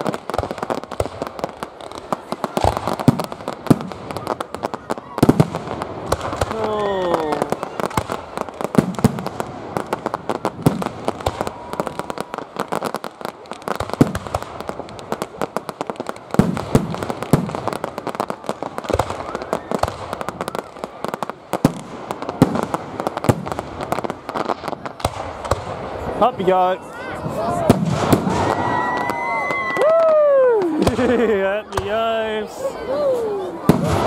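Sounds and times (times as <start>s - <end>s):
fireworks bursting: 0.0s - 34.0s
fireworks crackling: 0.0s - 34.0s.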